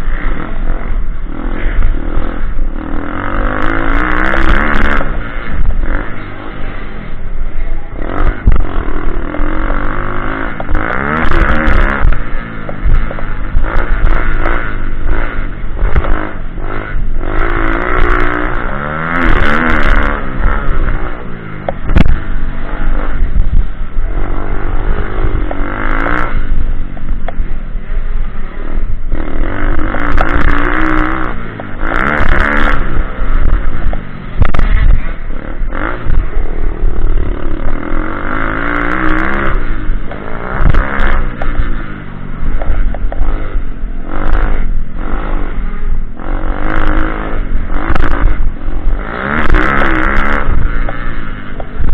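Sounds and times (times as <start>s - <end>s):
clatter: 0.0s - 51.9s
motorbike engine revving: 0.0s - 51.9s.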